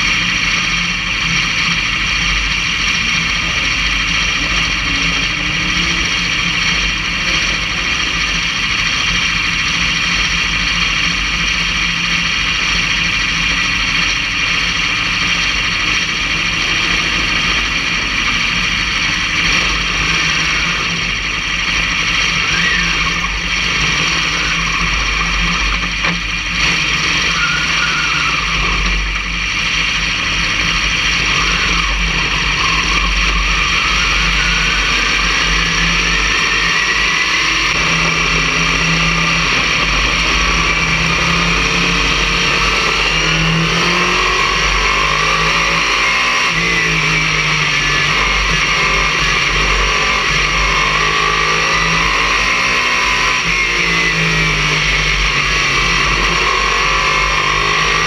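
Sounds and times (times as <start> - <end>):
race car engine running: 0.0 - 58.0
steady rush of noise: 0.0 - 58.0.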